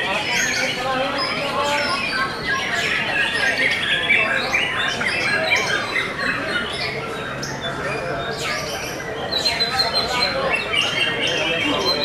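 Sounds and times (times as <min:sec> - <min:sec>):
birds singing whistles and trills: 0:00.0 - 0:12.0.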